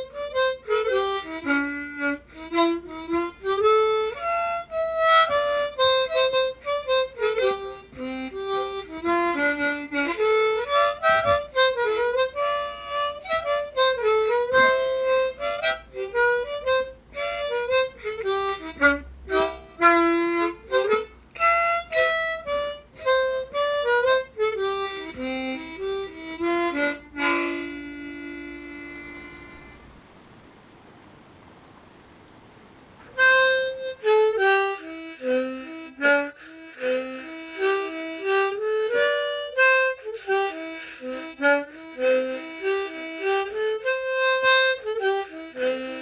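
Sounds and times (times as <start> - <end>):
harmonica playing brisk tune: 0.0 - 29.8, 33.2 - 46.0.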